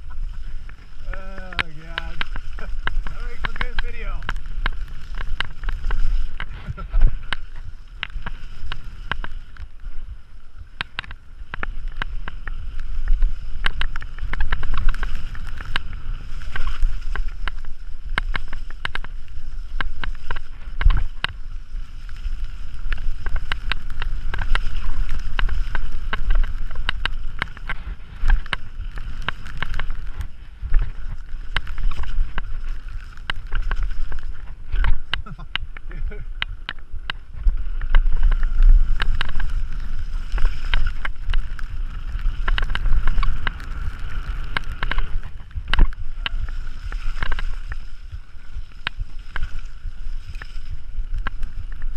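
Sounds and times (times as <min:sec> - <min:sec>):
bike clicks and rattles: 0:00.0 - 0:51.9
wind rumbling on microphone: 0:00.0 - 0:51.9.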